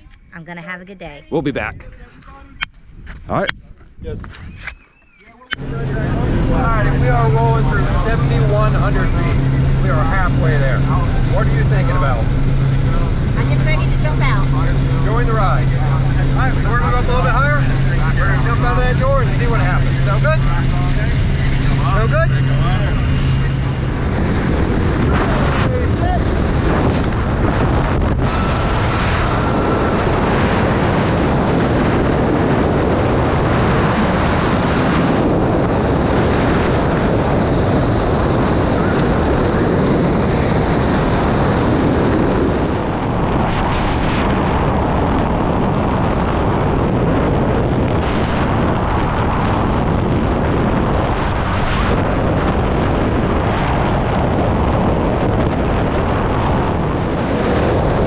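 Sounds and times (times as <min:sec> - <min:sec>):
wind blasting microphone: 0:00.0 - 0:58.0.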